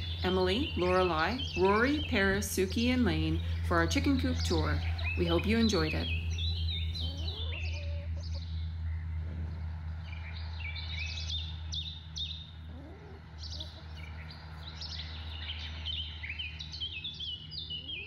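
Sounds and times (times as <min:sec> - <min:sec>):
songbirds chirping and singing: 0:00.0 - 0:18.0
steady low hum: 0:00.0 - 0:18.0.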